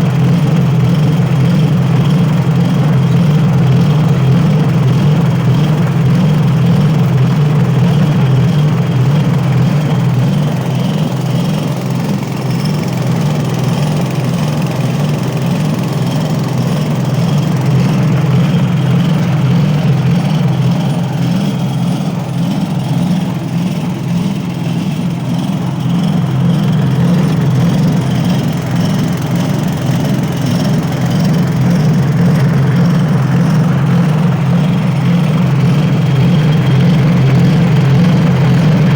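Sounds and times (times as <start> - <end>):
petrol engine running: 0.0 - 38.9.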